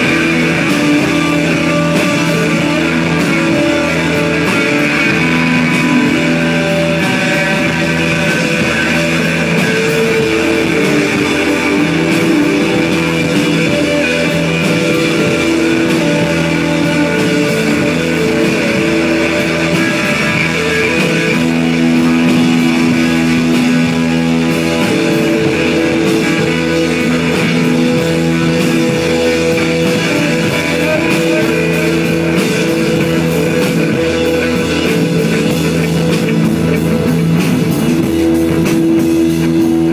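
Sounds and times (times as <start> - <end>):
drum kit groove: 0.0 - 39.9
electric guitar: 0.0 - 39.9.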